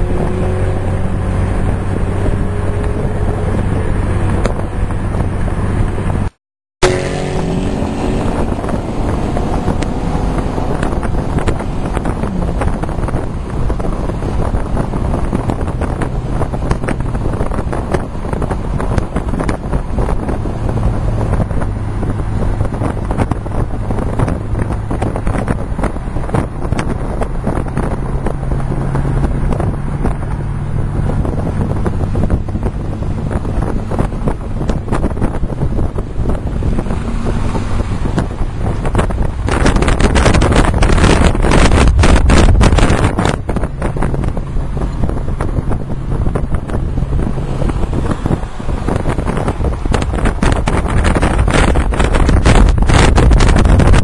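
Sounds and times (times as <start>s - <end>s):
car engine drone: 0.0s - 54.0s
road noise: 0.0s - 54.0s
wind noise on microphone: 0.0s - 54.0s.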